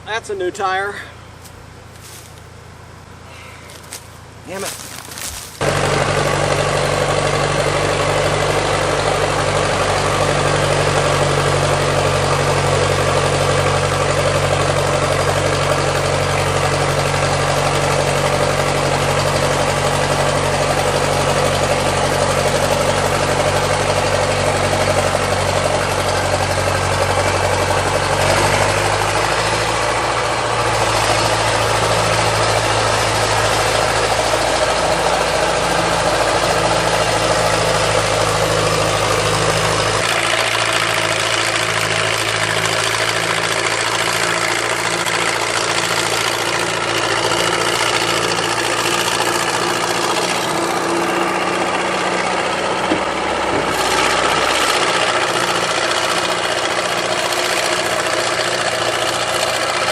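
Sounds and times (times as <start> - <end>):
backhoe engine droning: 0.0 - 59.9.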